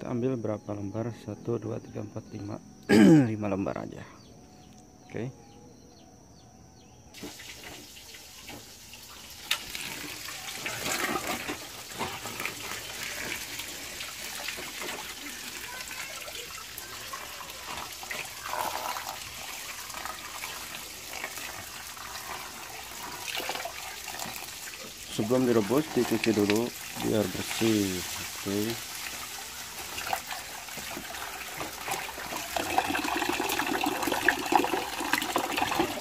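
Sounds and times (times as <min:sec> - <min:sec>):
running water splashing: 0:07.2 - 0:36.0.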